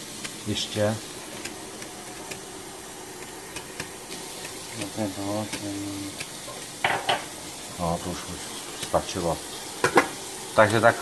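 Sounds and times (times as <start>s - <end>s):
water pouring into a pot: 0.0s - 11.0s.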